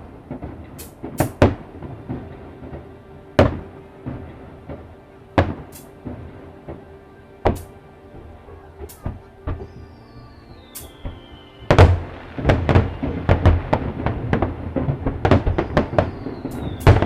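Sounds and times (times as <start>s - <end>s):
fireworks hissing: 0.0s - 4.8s, 5.4s - 6.8s, 7.4s - 17.0s
fireworks booming: 0.0s - 6.8s, 7.4s - 17.0s.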